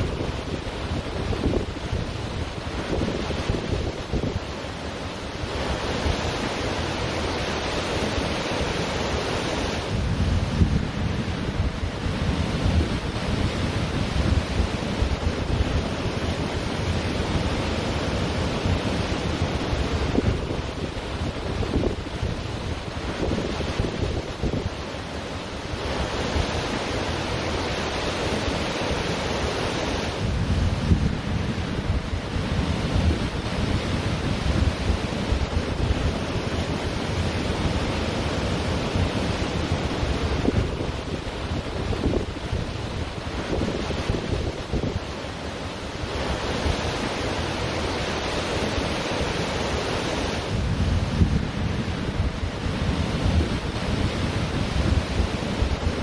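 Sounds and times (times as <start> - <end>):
wind buffeting microphone: 0.0 - 7.1, 9.7 - 24.9, 29.9 - 48.9, 50.1 - 56.0
ocean surf breaking: 0.0 - 56.0.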